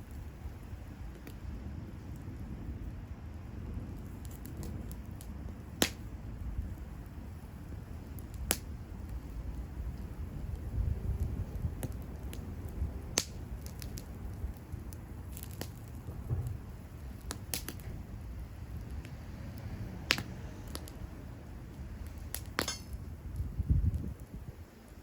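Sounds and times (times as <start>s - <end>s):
bonfire crackling and popping: 0.0s - 25.0s
low fire rumble: 0.0s - 25.0s.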